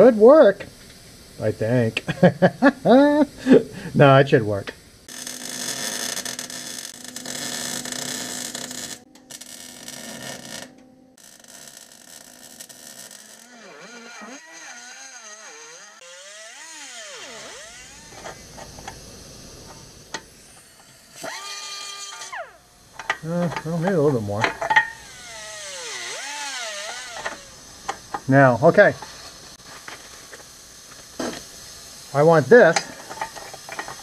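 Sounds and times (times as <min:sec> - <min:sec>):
welder arc crackling and buzzing: 0:00.0 - 0:34.0.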